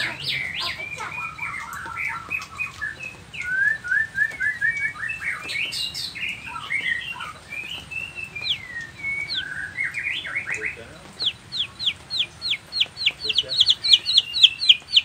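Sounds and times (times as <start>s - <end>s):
bird singing whistled song: 0.0s - 15.0s.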